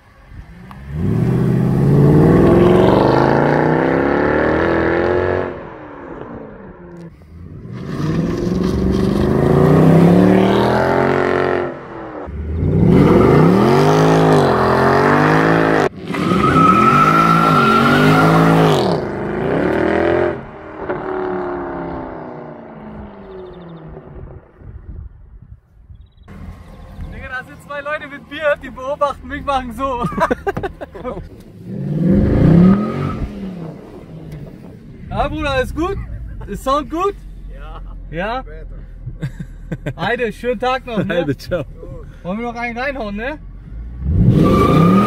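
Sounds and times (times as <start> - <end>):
car engine accelerating hard: 0.4 - 24.4, 31.4 - 39.8, 40.9 - 45.0.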